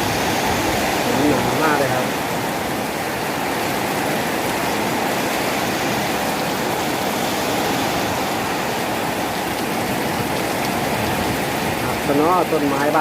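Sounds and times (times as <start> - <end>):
heavy rain in strong wind: 0.0 - 13.0.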